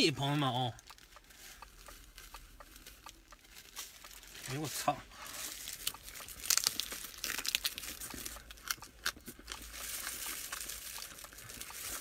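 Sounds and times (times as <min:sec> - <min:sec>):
person chewing: 0:00.8 - 0:04.4, 0:05.2 - 0:12.0
plastic wrapper crinkling: 0:00.9 - 0:12.0.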